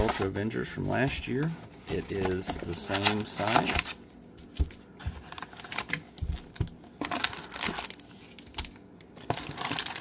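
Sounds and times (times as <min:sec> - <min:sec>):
card packaging crinkling: 0:00.0 - 0:10.0.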